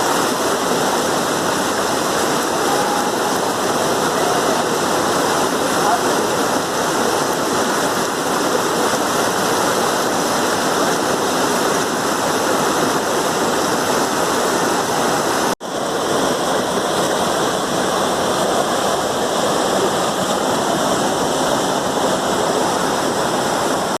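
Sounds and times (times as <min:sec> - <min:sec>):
water rushing over rock: 0:00.0 - 0:24.0.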